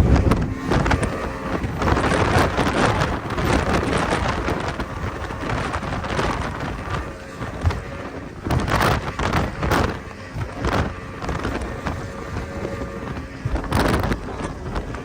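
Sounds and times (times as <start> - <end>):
boat engine: 0.0 - 15.0
waves slapping against hull: 0.0 - 15.0
wind buffeting microphone: 0.0 - 15.0.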